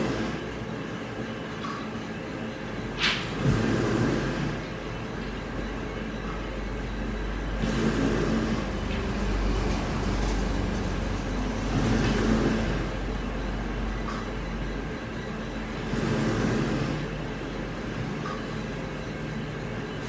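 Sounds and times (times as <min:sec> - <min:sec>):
heavy machinery humming: 0:00.0 - 0:20.0.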